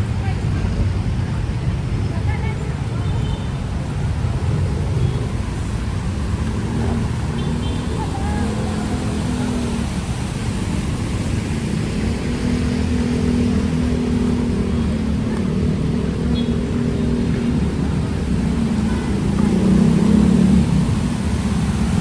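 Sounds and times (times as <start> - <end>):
traffic engine drone: 0.0 - 22.0.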